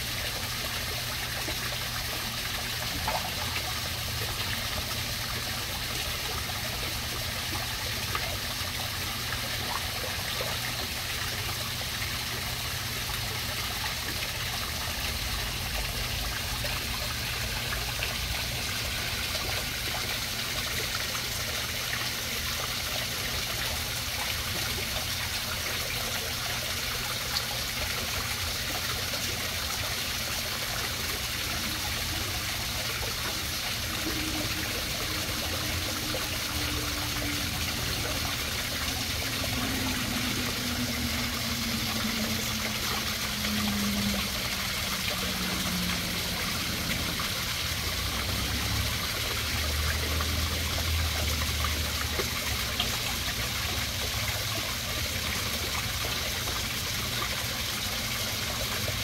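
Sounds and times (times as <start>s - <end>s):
waterfall splashing into pond: 0.0s - 59.0s.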